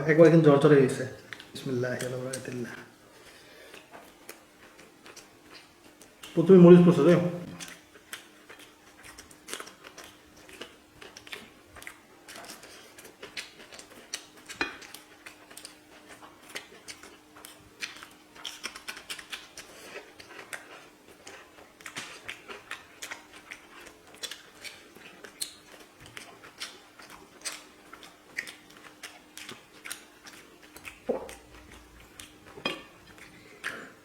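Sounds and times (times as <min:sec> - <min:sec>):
people chewing food: 0:00.0 - 0:34.0.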